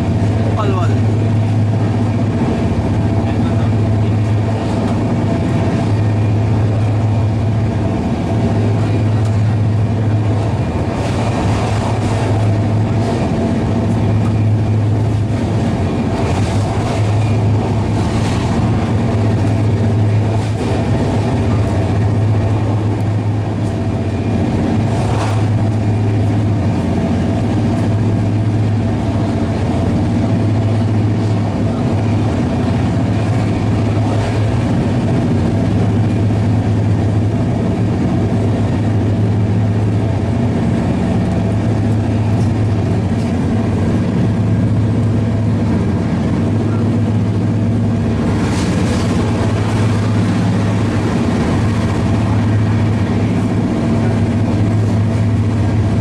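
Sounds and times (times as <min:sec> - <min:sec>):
constant low hum: 0:00.0 - 0:56.0
train wheels rumbling on rail: 0:00.0 - 0:56.0.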